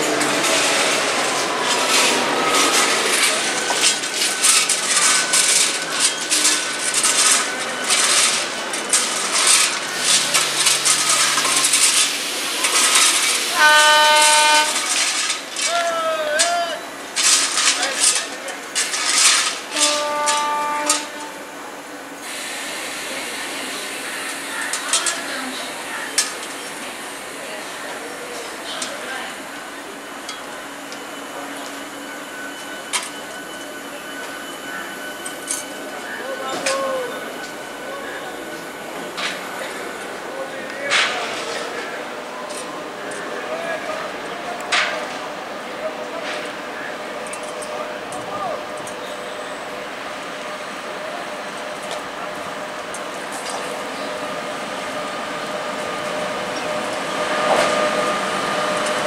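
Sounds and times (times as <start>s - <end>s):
electric locomotive running: 0.0s - 59.0s.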